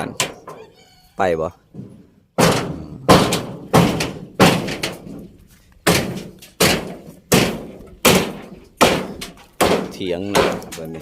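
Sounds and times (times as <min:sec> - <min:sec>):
iron sheets banging: 0:00.0 - 0:00.7, 0:01.7 - 0:11.0.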